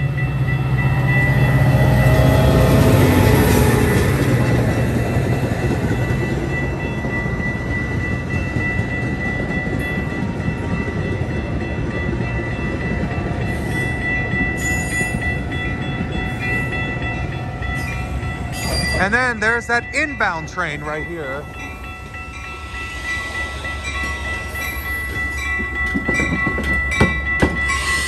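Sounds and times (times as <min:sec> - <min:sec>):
crossing warning bell: 0:00.0 - 0:28.0
train wheels rumbling on rails: 0:00.0 - 0:28.0.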